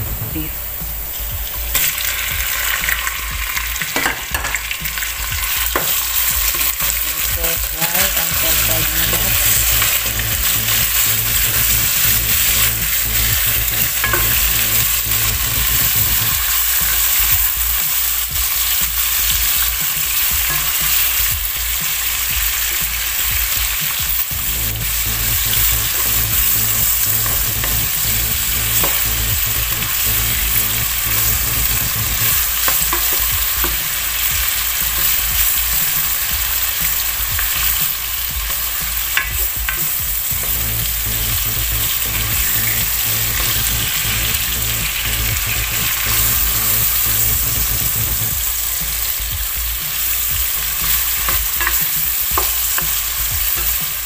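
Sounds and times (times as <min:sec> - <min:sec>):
meat sizzling in oil: 0:00.1 - 0:54.0.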